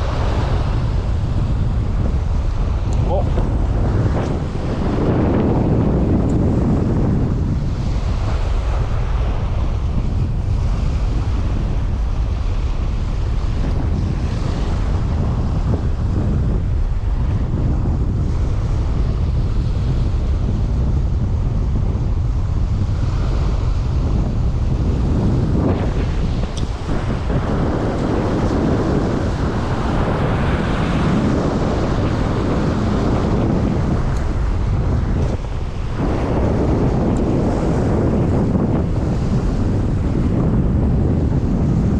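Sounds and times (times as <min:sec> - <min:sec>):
storm wind buffeting microphone: 0:00.0 - 0:41.9.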